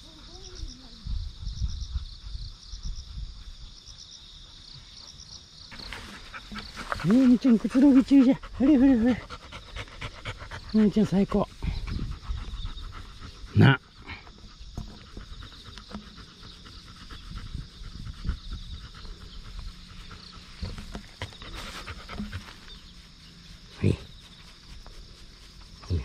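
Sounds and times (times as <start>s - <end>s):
dog panting: 0.0s - 25.9s.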